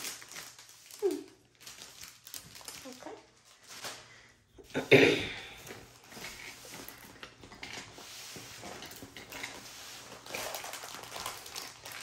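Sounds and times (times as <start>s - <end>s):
plastic film and paper crinkling: 0.0s - 4.5s, 5.5s - 12.0s.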